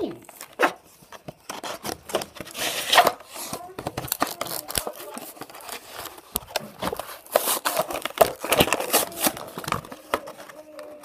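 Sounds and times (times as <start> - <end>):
plastic blister pack crinkling: 0.2 - 11.0.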